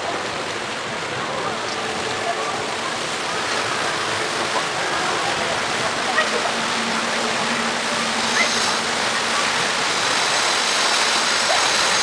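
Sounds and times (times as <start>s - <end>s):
fountain water spraying and falling: 0.0s - 12.0s.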